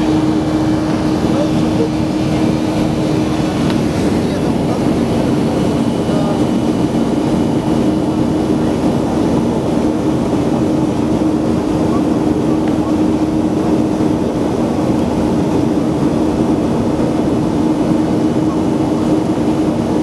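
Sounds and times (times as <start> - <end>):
jet engine drone: 0.0 - 20.0.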